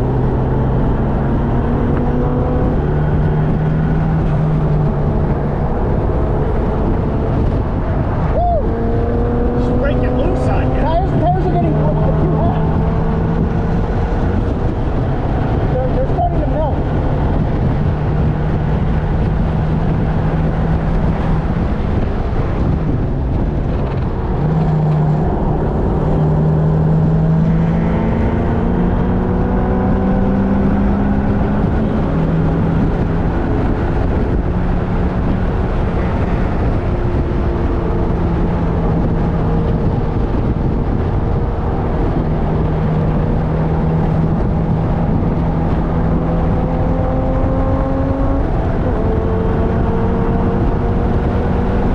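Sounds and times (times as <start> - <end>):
car engine accelerating: 0.0 - 51.9
wind and road noise: 0.0 - 51.9.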